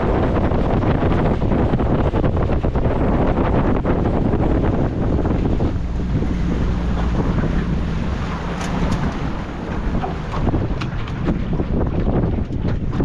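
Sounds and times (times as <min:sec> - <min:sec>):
motorboat engine drone: 0:00.0 - 0:13.0
water splashes: 0:00.0 - 0:13.0
wind buffeting microphone: 0:00.0 - 0:13.0.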